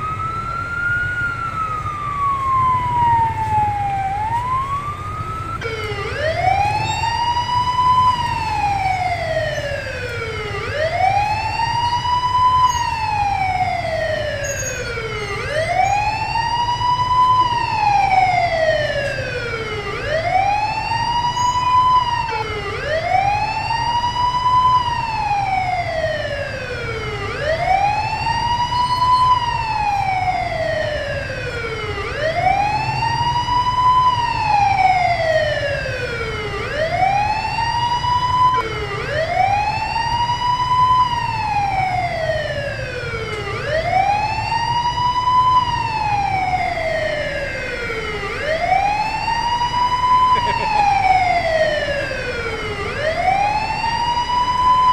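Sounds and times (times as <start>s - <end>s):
fire truck siren wailing: 0.0s - 54.9s.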